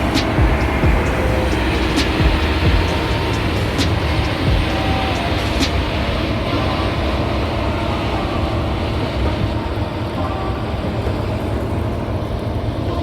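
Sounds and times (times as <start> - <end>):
combine harvester rumble: 0.0 - 13.0.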